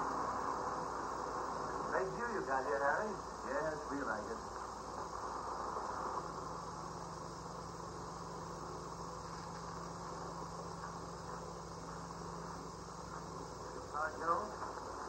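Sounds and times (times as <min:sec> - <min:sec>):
faint steady hum tone: 0:00.0 - 0:15.0
film soundtrack hiss and hum: 0:00.0 - 0:15.0.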